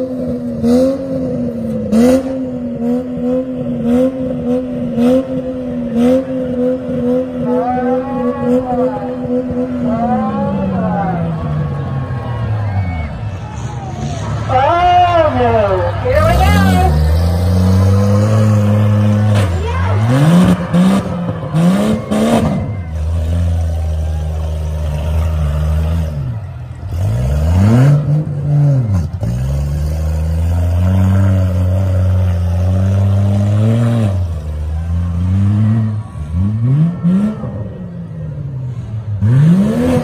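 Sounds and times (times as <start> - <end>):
truck engines revving: 0.0 - 40.0.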